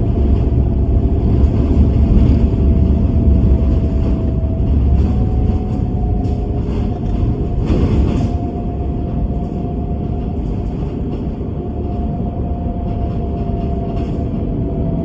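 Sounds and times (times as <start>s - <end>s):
bus engine rumble: 0.0s - 15.0s
bus whine: 0.0s - 15.0s.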